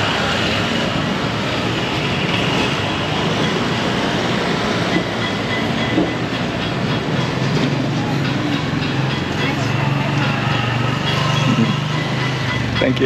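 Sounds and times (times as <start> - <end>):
traffic rumble: 0.0 - 13.0
urban hubbub: 0.0 - 13.0.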